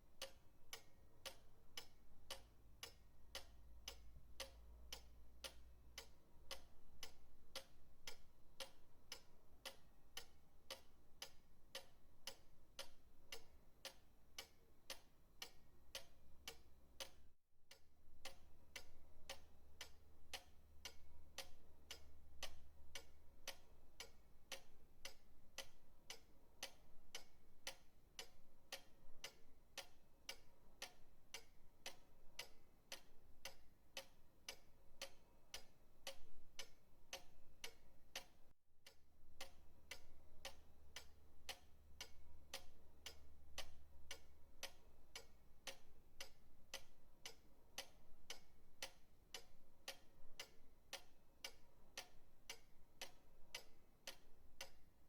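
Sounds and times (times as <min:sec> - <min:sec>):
pendulum clock ticking: 0:00.0 - 0:55.0.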